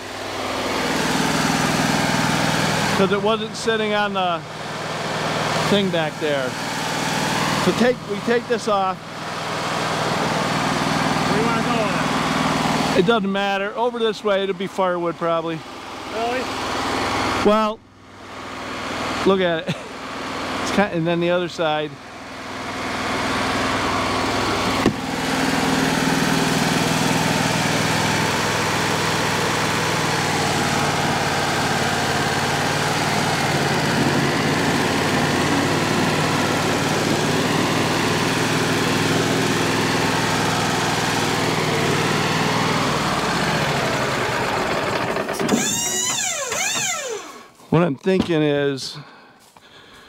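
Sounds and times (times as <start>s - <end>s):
sawmill engine running: 0.0s - 50.0s.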